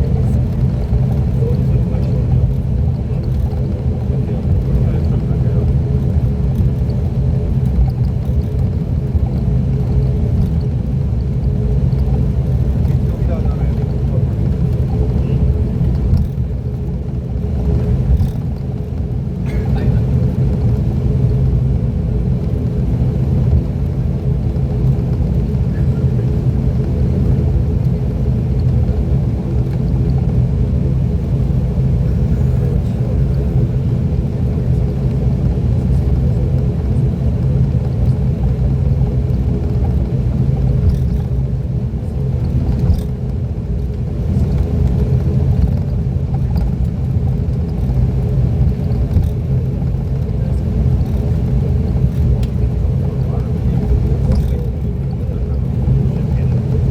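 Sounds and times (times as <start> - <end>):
turboprop engines inside cabin: 0.0 - 56.9.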